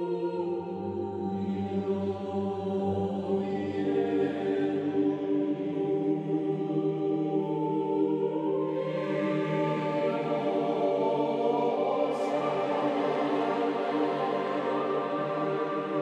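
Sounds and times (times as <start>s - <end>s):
ambient music with choir-like chords: 0.0s - 16.0s.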